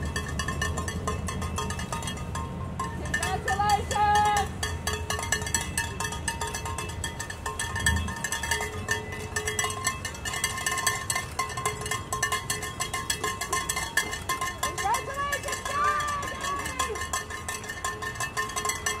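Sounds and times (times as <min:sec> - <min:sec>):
cars driving slowly past: 0:00.0 - 0:19.0
metallic noisemakers clinking: 0:00.0 - 0:19.0.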